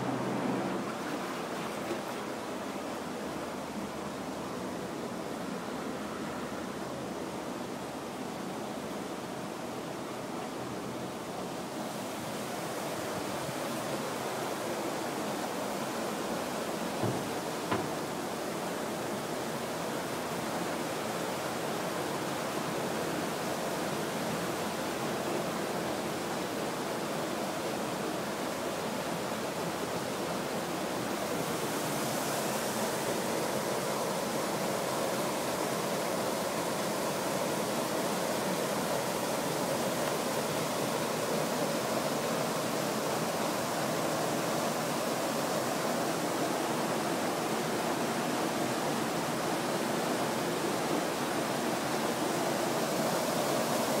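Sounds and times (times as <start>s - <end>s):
water rushing through sluices: 0.0s - 4.8s, 10.0s - 54.0s.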